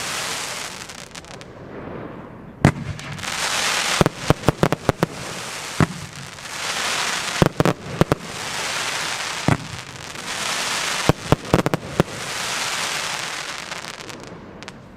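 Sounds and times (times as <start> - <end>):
hiss of burning firework stars: 0.0 - 14.8
firework shots: 0.0 - 14.9.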